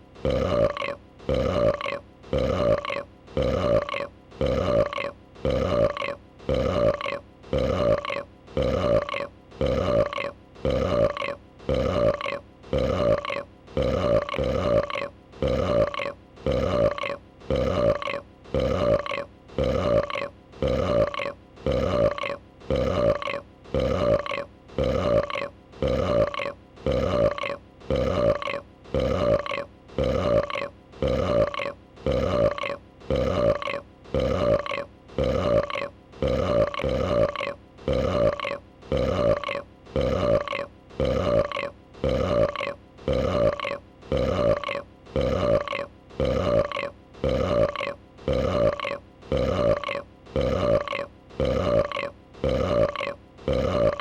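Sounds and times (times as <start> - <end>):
short burp sound effect: 0.2 - 54.0.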